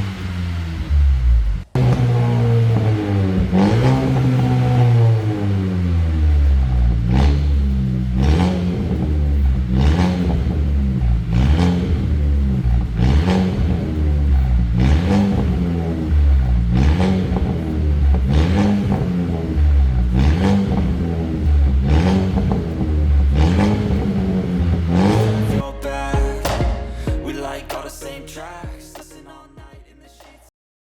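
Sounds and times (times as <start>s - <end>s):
car engine revving: 0.0s - 29.0s
low exhaust note: 0.0s - 29.6s.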